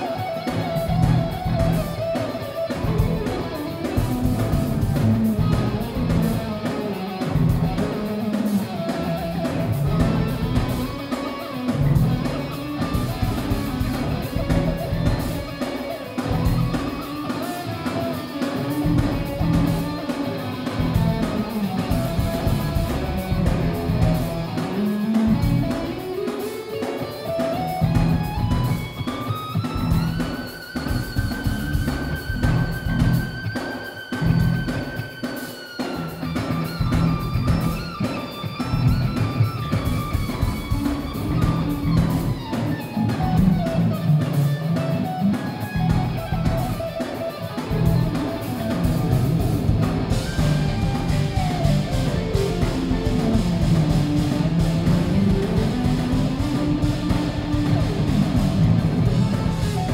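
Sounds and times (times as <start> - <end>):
electric guitar lead: 0.0 - 59.9
muffled live rock band: 0.0 - 59.9.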